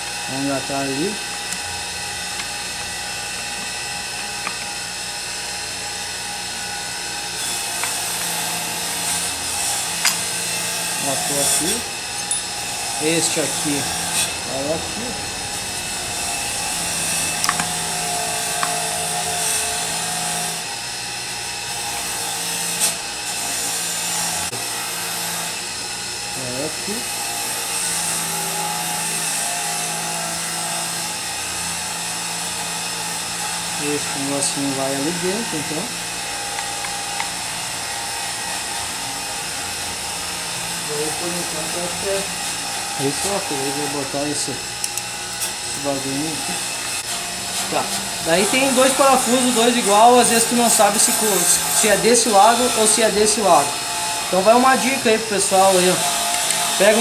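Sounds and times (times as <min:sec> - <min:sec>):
machine whine: 0:00.0 - 0:57.0.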